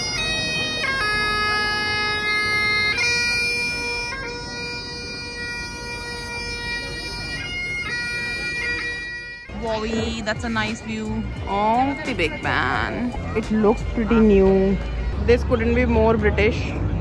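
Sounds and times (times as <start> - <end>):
bagpipes playing slow tune: 0.0 - 16.8.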